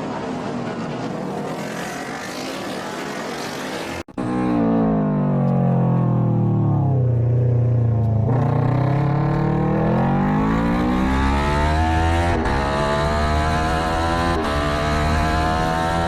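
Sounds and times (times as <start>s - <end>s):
racing motorcycle engine: 0.0s - 16.0s.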